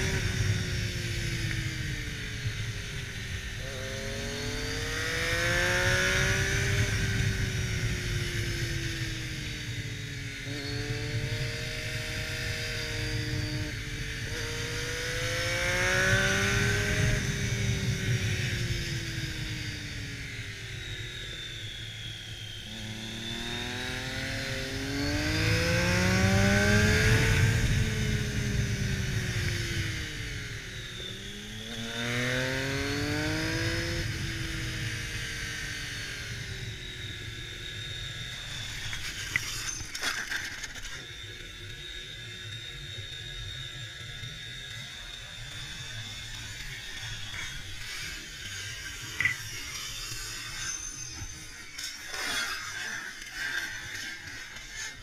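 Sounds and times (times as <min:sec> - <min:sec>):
motorcycle engine revving: 0:00.0 - 0:21.4, 0:22.6 - 0:41.0, 0:44.6 - 0:55.0.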